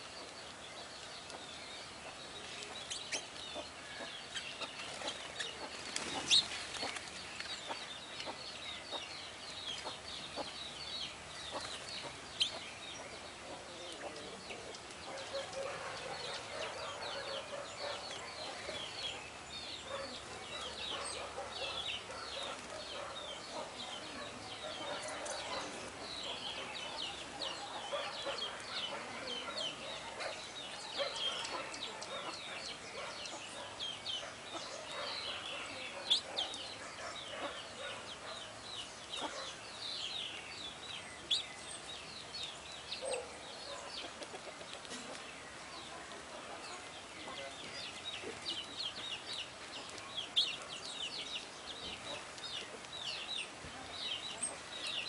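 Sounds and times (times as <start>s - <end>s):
small songbirds chirping: 0.0s - 55.0s.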